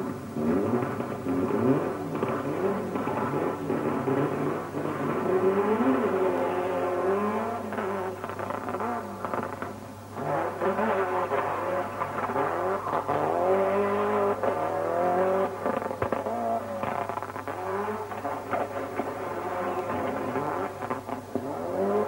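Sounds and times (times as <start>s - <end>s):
rally car engine revving hard: 0.0s - 22.0s.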